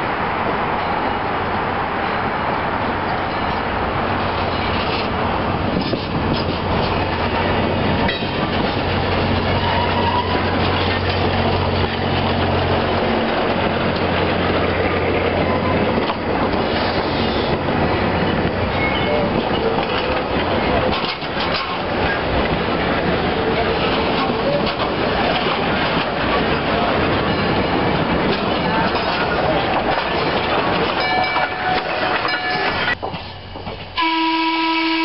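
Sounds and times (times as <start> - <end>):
train wheels clicking over track: 3.1 - 34.0.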